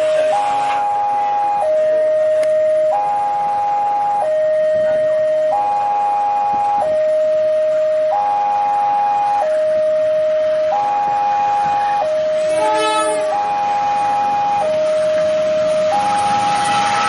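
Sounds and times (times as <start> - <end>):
level crossing warning alarm: 0.0 - 17.0.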